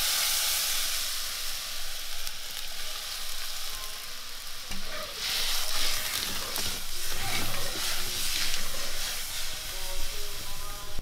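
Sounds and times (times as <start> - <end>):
oil sizzling in a pan: 0.0 - 11.0
ladle stirring a pan: 0.3 - 11.0.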